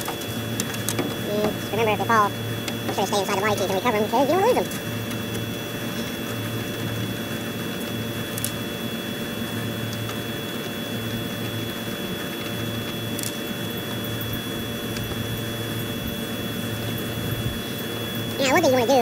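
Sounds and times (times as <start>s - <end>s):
machine drone with high whine: 0.0s - 19.0s.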